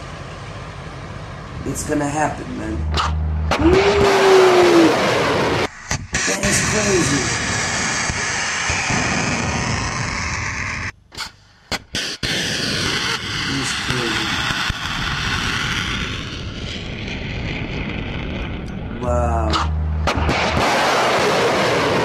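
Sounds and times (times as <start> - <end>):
rocket exhaust roar: 0.0 - 11.0, 11.7 - 22.0.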